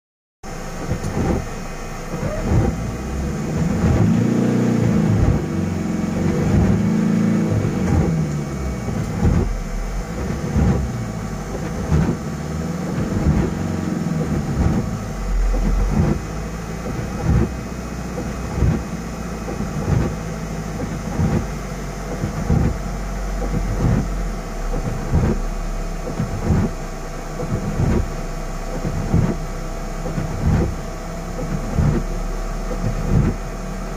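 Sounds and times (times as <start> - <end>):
vehicle engine running: 0.4 - 33.9
low thumps: 2.1 - 5.6, 6.2 - 20.2, 20.8 - 33.4.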